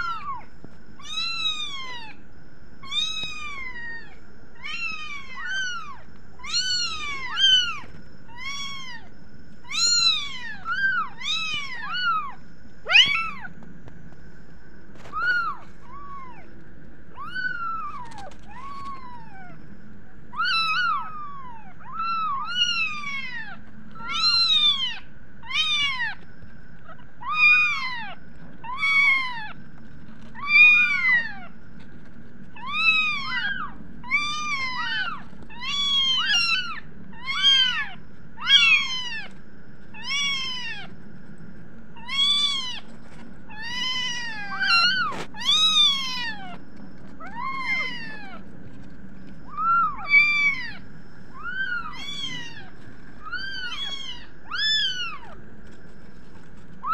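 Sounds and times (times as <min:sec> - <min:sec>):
kittens mewing: 0:02.8 - 0:13.6, 0:15.0 - 0:19.6, 0:20.3 - 0:26.2, 0:26.9 - 0:29.6, 0:30.2 - 0:31.6, 0:32.5 - 0:41.0, 0:42.0 - 0:42.9, 0:43.5 - 0:48.6, 0:49.4 - 0:55.4.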